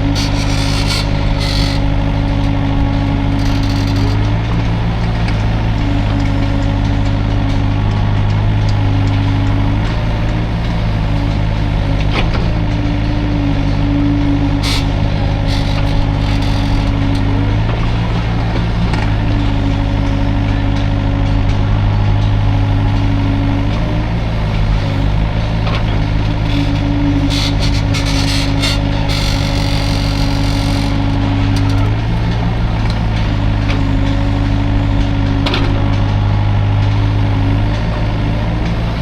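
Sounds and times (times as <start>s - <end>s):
excavator diesel engine running: 0.0s - 39.0s
higher hydraulic hum: 0.0s - 39.0s.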